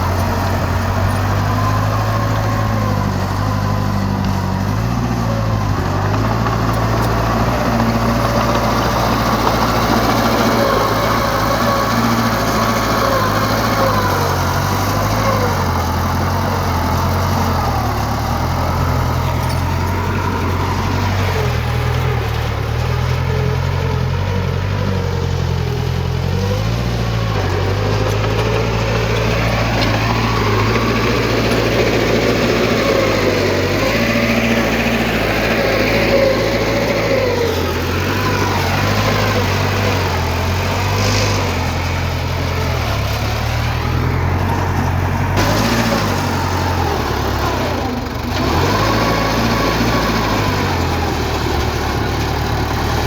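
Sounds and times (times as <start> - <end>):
heavy machinery diesel engine: 0.0 - 53.0.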